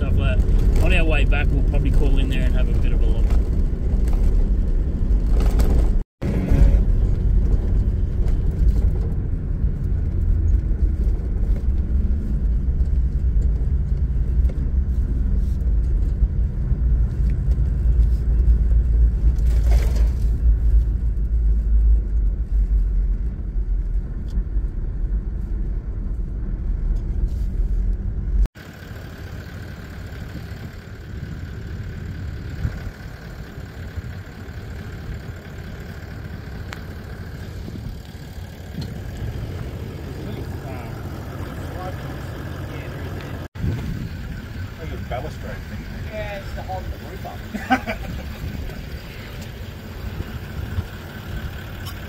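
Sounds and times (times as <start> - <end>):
vehicle driving on gravel: 0.0 - 52.0.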